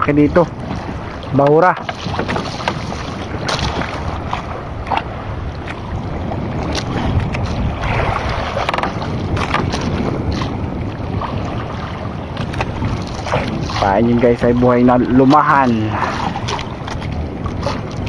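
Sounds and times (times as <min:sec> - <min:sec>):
water washing against boat: 0:00.0 - 0:18.0
wind on microphone: 0:00.0 - 0:18.0.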